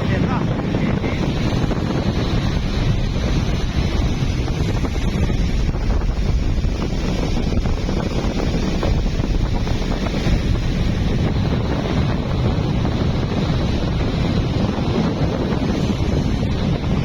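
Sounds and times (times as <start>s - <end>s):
boat running noise: 0.0s - 17.0s
wind rumble on microphone: 0.0s - 17.0s.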